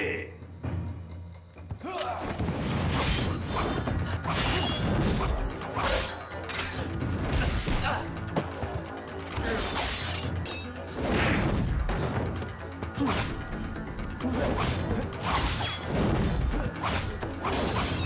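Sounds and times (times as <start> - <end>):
film music score: 0.0 - 18.0.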